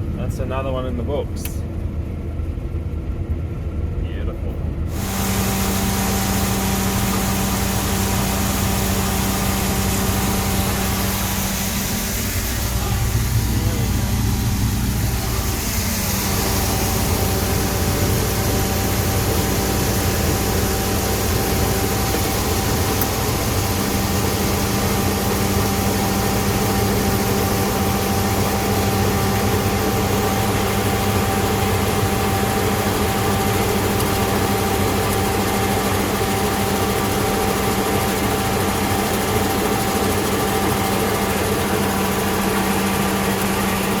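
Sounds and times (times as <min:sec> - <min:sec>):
combine harvester engine drone: 0:00.0 - 0:44.0
constant whine: 0:00.0 - 0:44.0.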